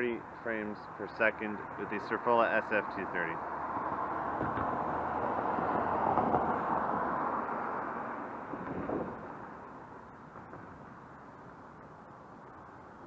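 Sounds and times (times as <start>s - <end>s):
faint background traffic hum: 0.0s - 13.0s
car passing: 1.0s - 13.0s.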